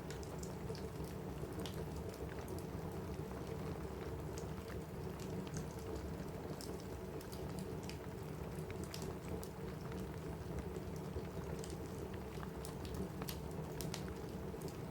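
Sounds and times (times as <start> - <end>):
rain on a roof: 0.0 - 14.9.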